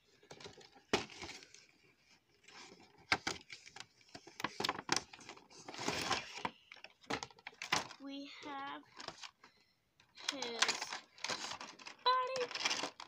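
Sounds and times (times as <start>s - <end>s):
packaging rustle: 0.0s - 13.0s.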